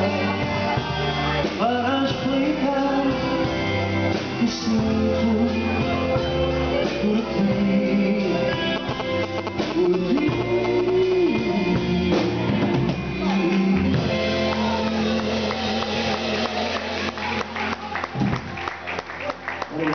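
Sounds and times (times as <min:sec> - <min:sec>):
band music: 0:00.0 - 0:19.9
drums: 0:00.0 - 0:19.9
guitar: 0:00.0 - 0:19.9.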